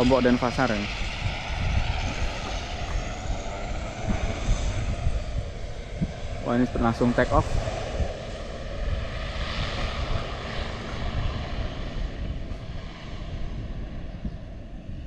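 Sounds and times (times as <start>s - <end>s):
turboprop plane taking off: 0.0s - 15.0s.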